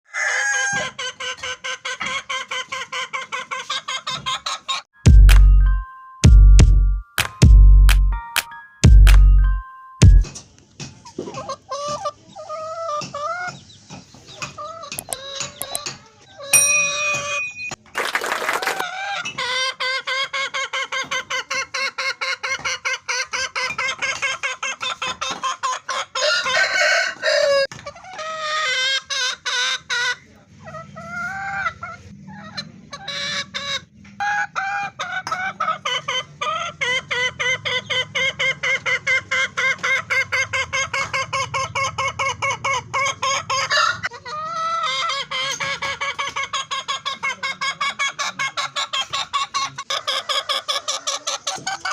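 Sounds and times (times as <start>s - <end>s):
hen clucking: 0.2s - 4.9s, 11.0s - 17.4s, 18.3s - 51.9s.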